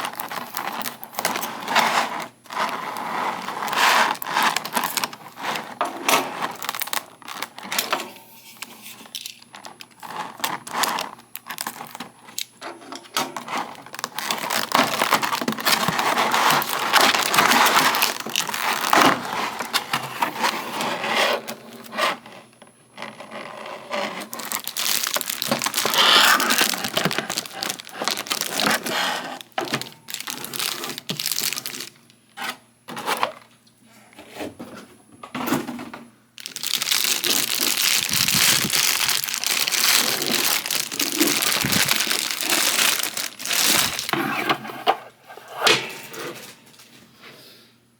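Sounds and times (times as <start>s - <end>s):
plastic packaging crinkling: 0.0s - 12.6s, 13.4s - 21.9s, 23.0s - 32.2s, 36.4s - 44.5s.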